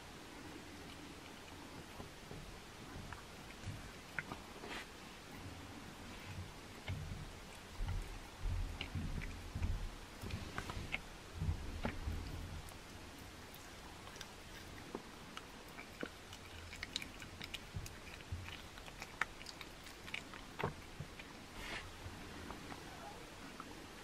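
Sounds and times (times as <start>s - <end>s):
cat chewing meat: 0.2s - 24.0s.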